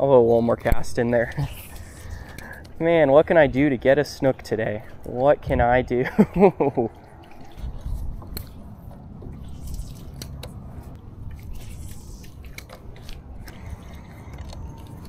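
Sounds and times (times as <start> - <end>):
wind buffeting microphone: 0.5 - 15.0.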